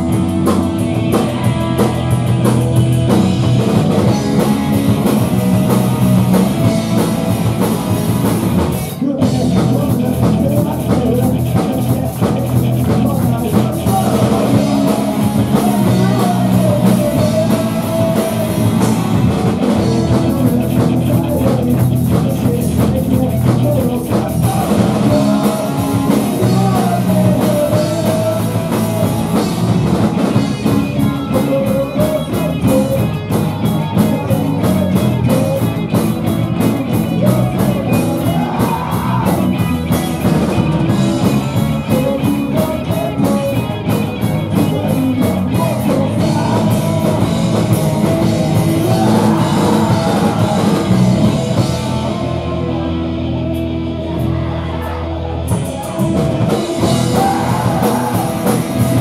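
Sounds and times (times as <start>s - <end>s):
bass guitar: 0.0s - 59.0s
distorted electric guitar: 0.0s - 59.0s
driving drum kit: 0.0s - 59.0s
person singing: 8.6s - 59.0s.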